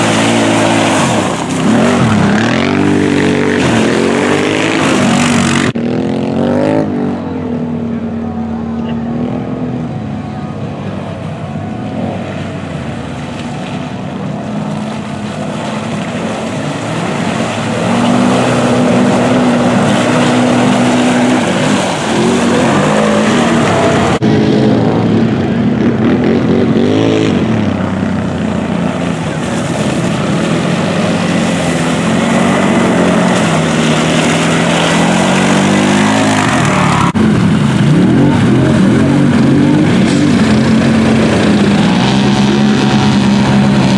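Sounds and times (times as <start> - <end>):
vehicle engines revving under load: 0.0 - 43.9.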